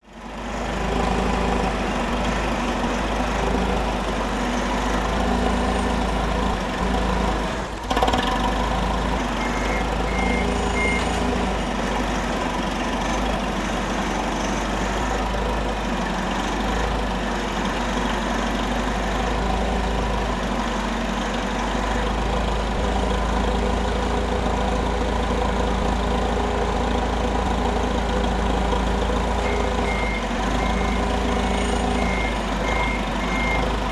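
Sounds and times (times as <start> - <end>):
forklift running: 0.0 - 33.9.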